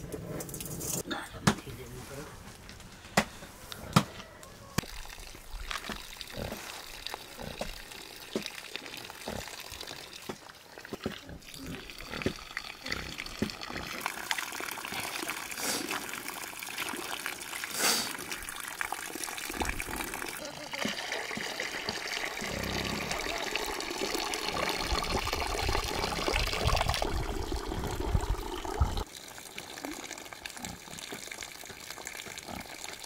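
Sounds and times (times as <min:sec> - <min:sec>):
water running from pipe: 0:04.8 - 0:33.0.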